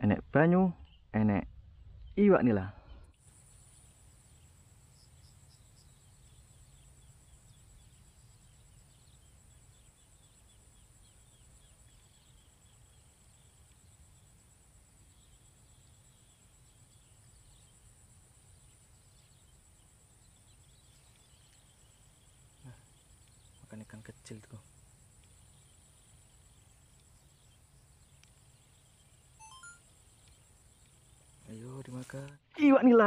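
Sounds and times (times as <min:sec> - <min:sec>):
faint chirps: 0:00.0 - 0:32.7
high-pitched insect trill: 0:03.2 - 0:32.3.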